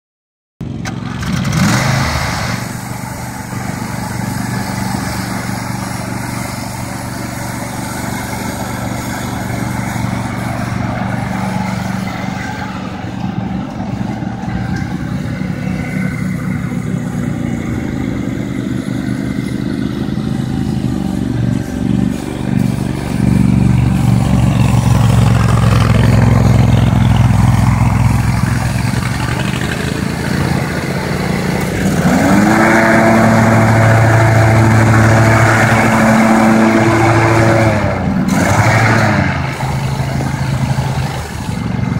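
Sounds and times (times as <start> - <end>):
riding lawn mower engine: 0.6 - 41.9.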